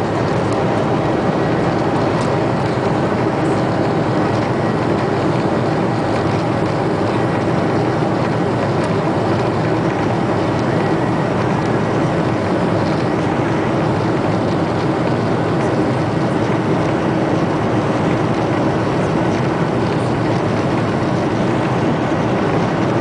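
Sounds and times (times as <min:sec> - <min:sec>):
airliner engine roar in cabin: 0:00.0 - 0:23.0.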